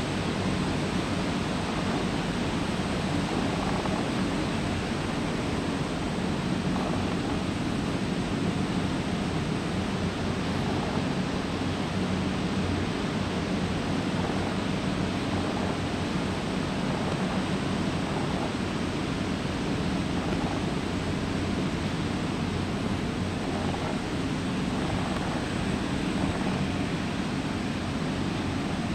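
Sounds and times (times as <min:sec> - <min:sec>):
warehouse ambient roar: 0:00.0 - 0:28.9.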